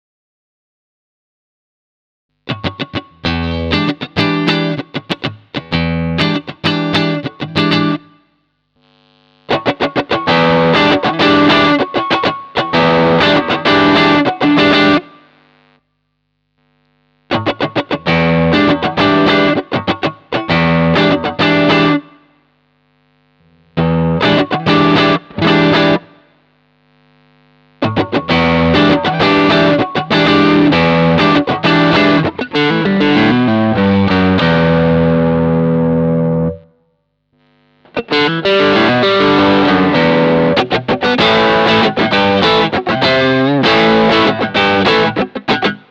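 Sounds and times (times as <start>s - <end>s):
distorted electric guitar: 2.4s - 45.9s.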